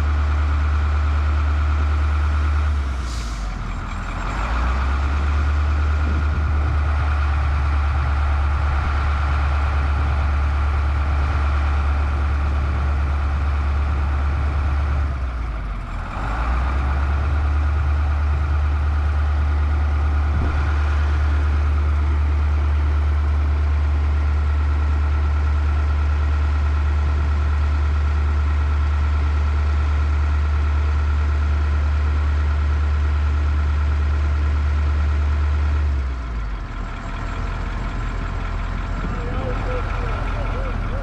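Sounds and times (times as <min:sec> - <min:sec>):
heavy diesel engine humming: 0:00.0 - 0:41.0.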